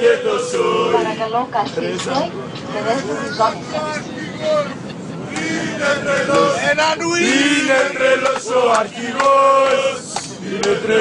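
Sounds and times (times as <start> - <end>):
men chanting and singing: 0.0 - 11.0.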